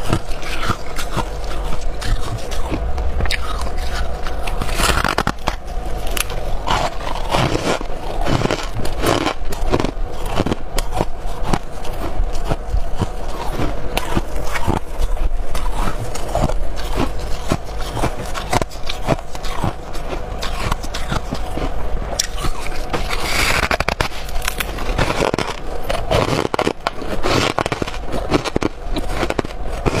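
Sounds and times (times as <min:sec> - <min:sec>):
ice crunching while chewed: 0:00.0 - 0:30.0.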